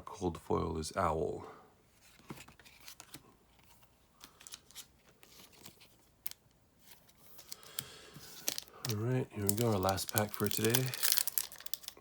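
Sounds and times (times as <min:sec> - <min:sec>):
trading cards and foil pack handling: 0:02.1 - 0:12.0.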